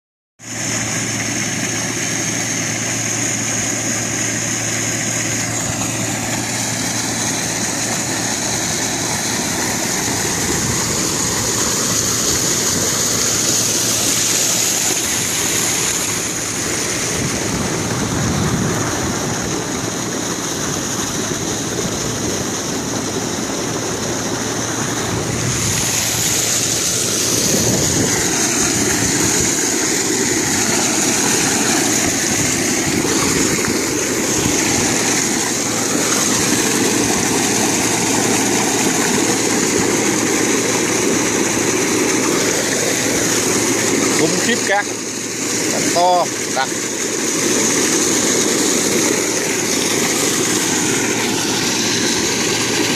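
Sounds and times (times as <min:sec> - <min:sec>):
high whine: 0:00.4 - 0:45.0
dredge engine and pump: 0:00.4 - 0:52.9
water rushing: 0:00.4 - 0:52.9.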